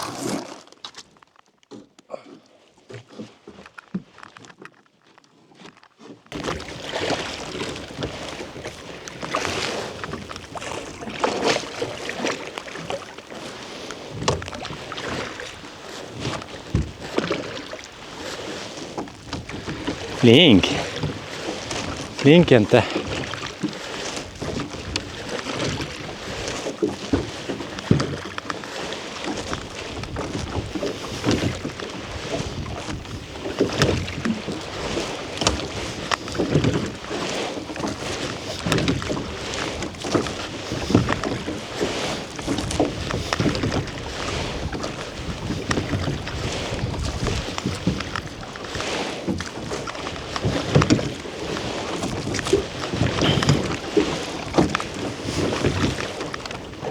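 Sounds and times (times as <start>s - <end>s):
oar strokes splashing water: 0.0s - 56.9s.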